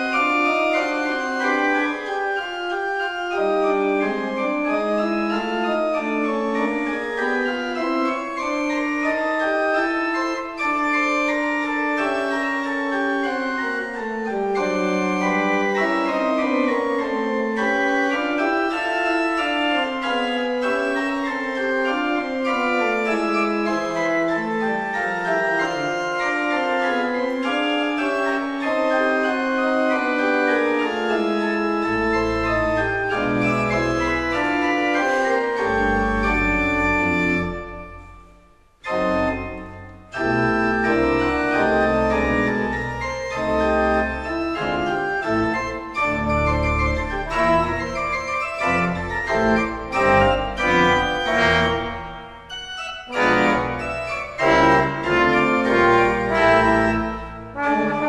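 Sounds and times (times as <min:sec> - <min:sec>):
deep organ pedal bass notes: 0:00.0 - 0:38.2, 0:38.8 - 0:58.0
organ playing: 0:00.0 - 0:58.0.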